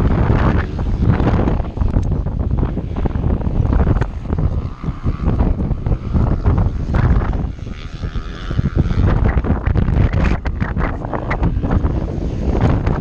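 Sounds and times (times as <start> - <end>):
motorcycle engine running hard: 0.0 - 13.0
wind buffeting microphone: 0.0 - 13.0.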